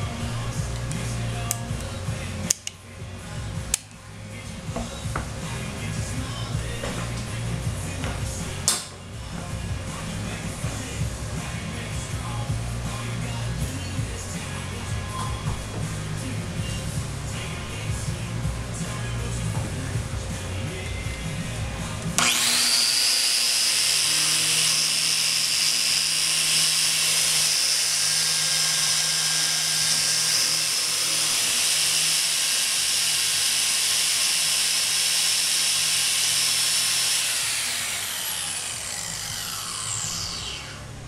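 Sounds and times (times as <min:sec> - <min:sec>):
angle grinder whine: 0:04.4 - 0:41.0.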